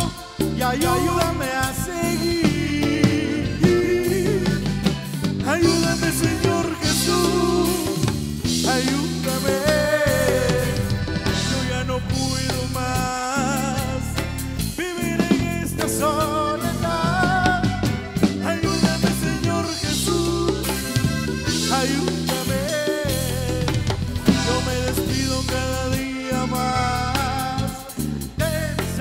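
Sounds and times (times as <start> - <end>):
acoustic guitar: 0.0 - 29.0
drum beat: 0.0 - 29.0
electric bass: 0.0 - 29.0.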